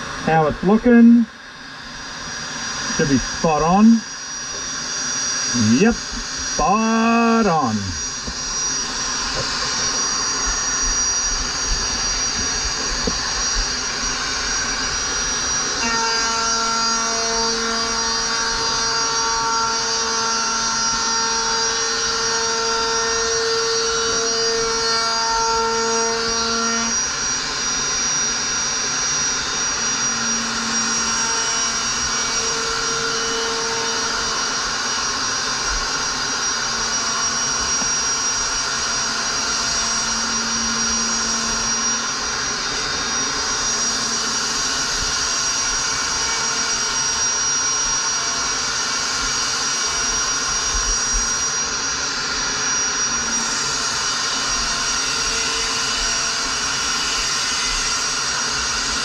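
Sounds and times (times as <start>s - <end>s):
router high whine: 0.0s - 59.0s.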